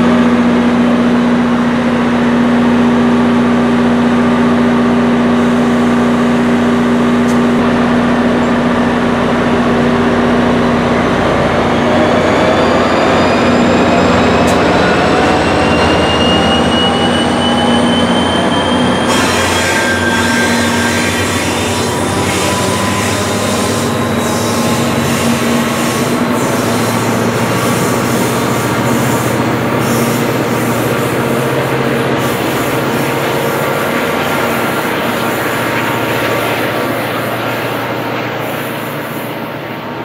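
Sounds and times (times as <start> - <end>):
diesel locomotive: 0.0 - 40.0
steady low drone: 0.0 - 40.0
train wheels rumbling on rails: 0.0 - 40.0
rising whines: 1.5 - 40.0.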